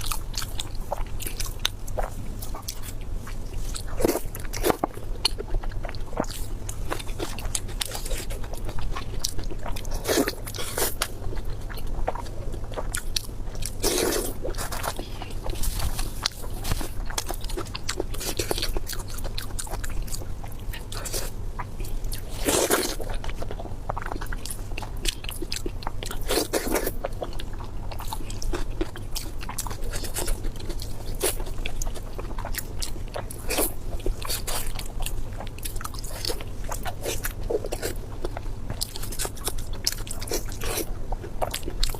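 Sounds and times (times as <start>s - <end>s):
person chewing crunchy food: 0.0s - 41.9s
steady low hum: 0.0s - 41.9s.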